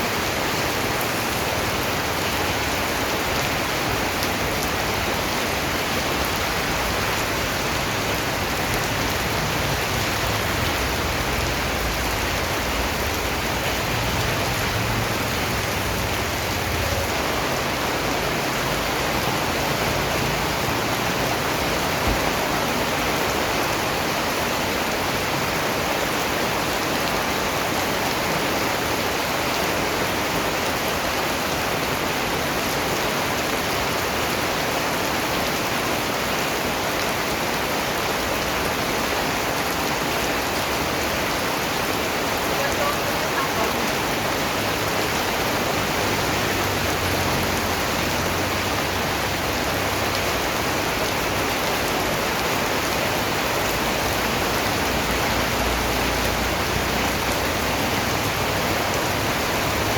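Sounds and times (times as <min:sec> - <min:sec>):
steady rainfall hiss: 0:00.0 - 0:59.9.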